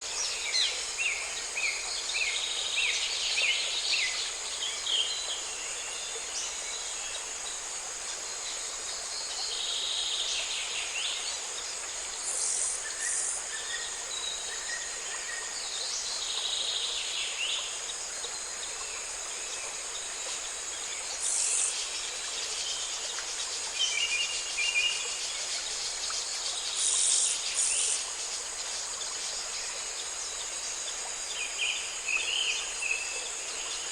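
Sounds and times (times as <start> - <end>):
insect chorus: 0.0 - 33.9.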